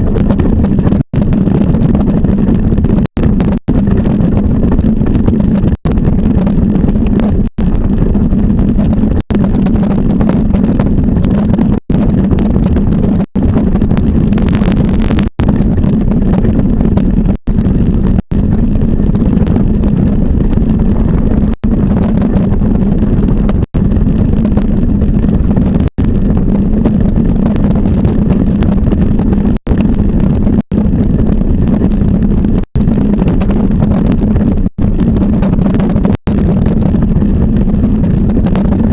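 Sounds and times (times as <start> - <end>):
iceboat runners rumbling over ice: 0.0 - 38.9.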